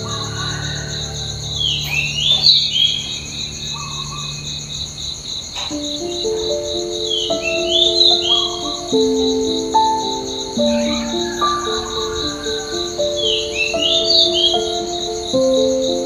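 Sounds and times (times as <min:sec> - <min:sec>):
slow background music: 0:00.0 - 0:04.6, 0:05.6 - 0:16.0
insects trilling: 0:00.0 - 0:16.0.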